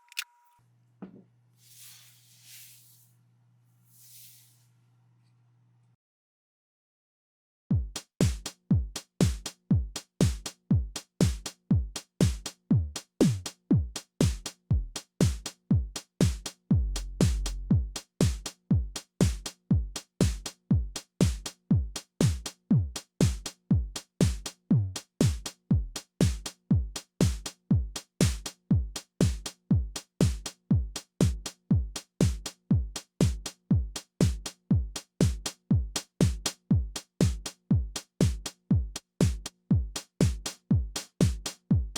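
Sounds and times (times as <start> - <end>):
drum machine beat: 7.7 - 41.9.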